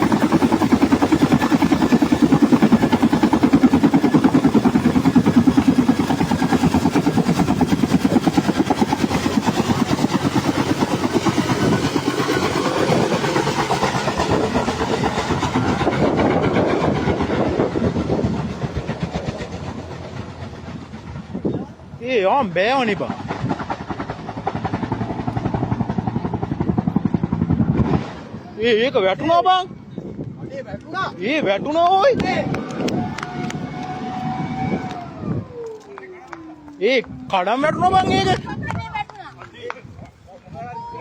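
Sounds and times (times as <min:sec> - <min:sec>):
helicopter rotor chopping: 0:00.0 - 0:41.0.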